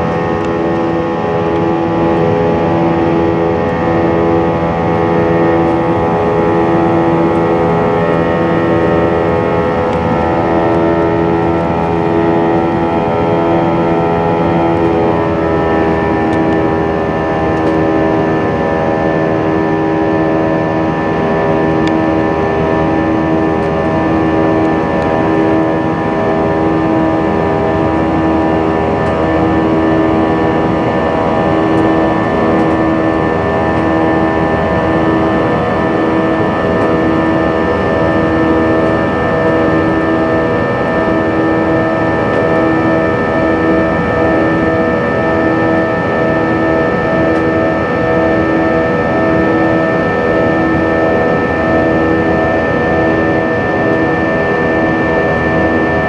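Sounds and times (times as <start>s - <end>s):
airliner engines droning: 0.0s - 56.0s.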